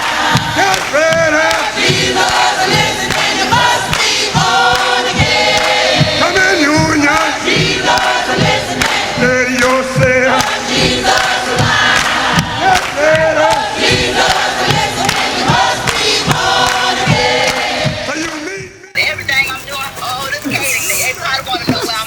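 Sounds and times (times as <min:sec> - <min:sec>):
voices singing with vibrato: 0:00.0 - 0:18.2, 0:19.0 - 0:22.0.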